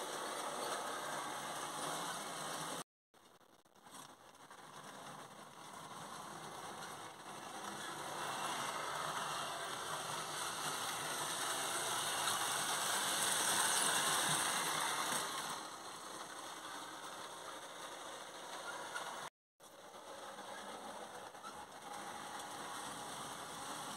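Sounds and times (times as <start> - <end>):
model train running on track: 0.0 - 2.8, 3.8 - 23.9.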